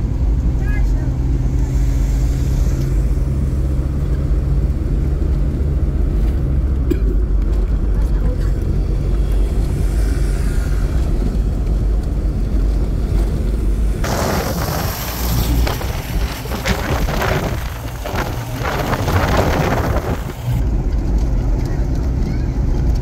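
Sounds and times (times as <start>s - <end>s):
car road and engine rumble: 0.0s - 23.0s
wind rushing on microphone: 0.0s - 23.0s.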